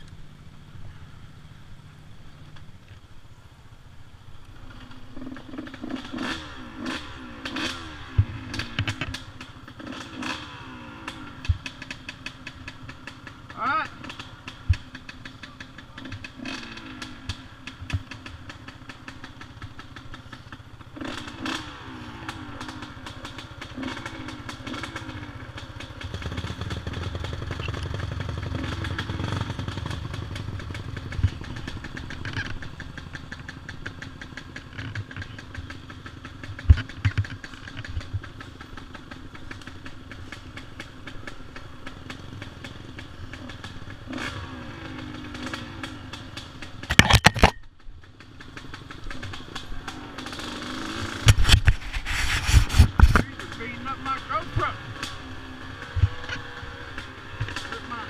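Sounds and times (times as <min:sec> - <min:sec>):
atv engines: 0:00.0 - 0:58.0
dirt bike engine: 0:00.0 - 0:58.0.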